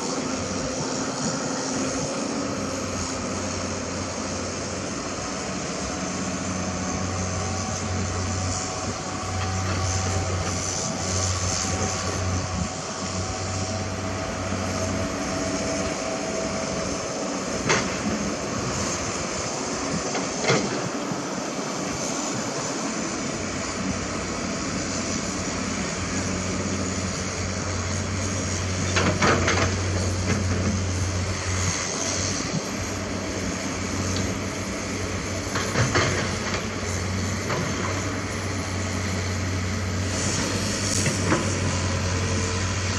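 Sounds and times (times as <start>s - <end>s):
diesel truck engines humming: 0.0s - 42.9s.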